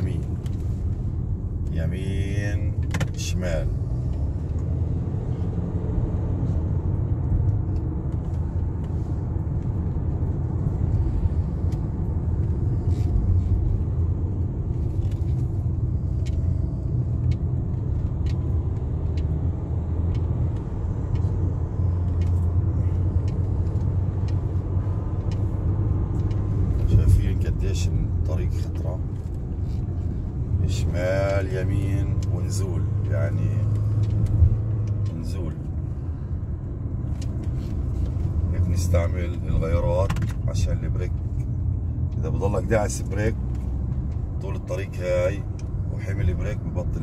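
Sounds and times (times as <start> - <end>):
car engine and road rumble: 0.0 - 47.0.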